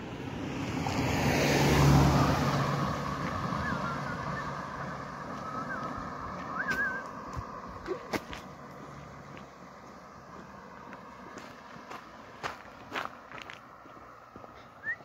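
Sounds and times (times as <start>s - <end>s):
car passing by: 0.0s - 15.0s.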